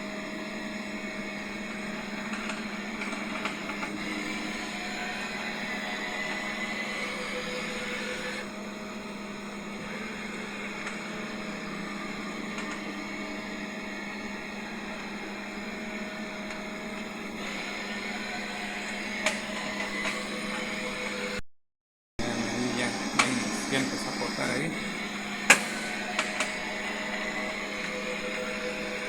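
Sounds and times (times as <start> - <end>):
lathe humming: 0.0 - 21.4, 22.2 - 29.0.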